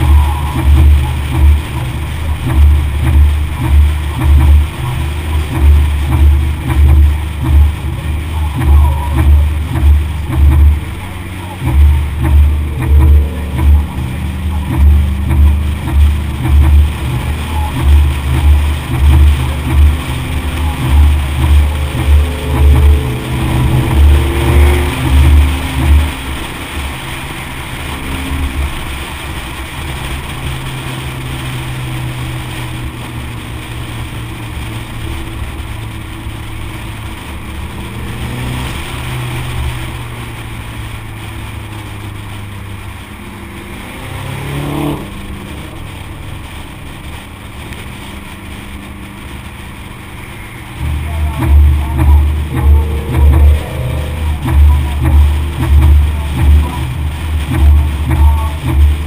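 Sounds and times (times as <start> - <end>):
car engine cruising: 0.0 - 59.0
low buffeting on microphone: 0.0 - 59.0
road and wind noise: 0.0 - 59.0.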